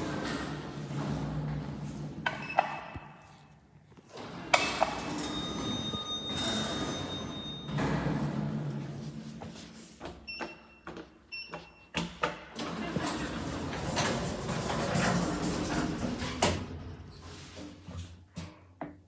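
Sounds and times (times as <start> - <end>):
sliding doors humming: 0.0 - 10.0, 12.4 - 17.8.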